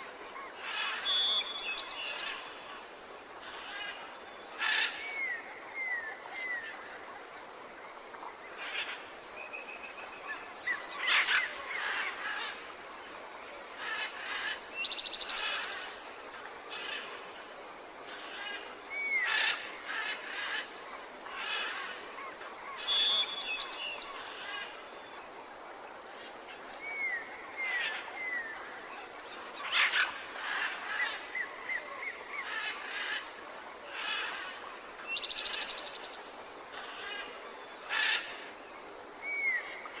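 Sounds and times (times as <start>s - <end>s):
background hiss: 0.0s - 40.0s.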